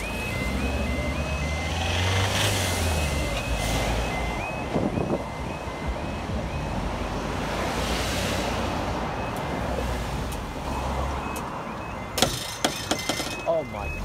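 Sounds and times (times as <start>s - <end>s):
warbling two-tone crossing alarm: 0.0s - 7.9s, 8.7s - 14.0s
cars driving past: 0.0s - 14.0s.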